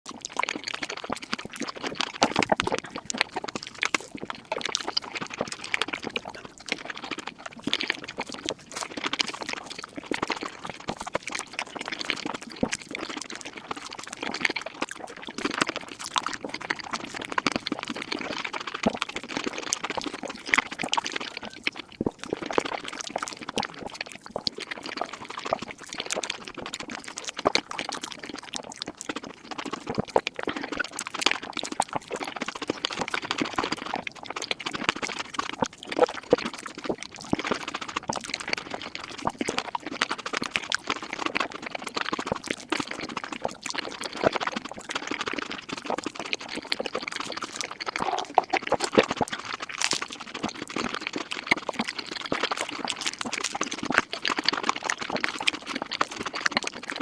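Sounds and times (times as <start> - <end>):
sped-up chewing and slurping: 0.1 - 57.0.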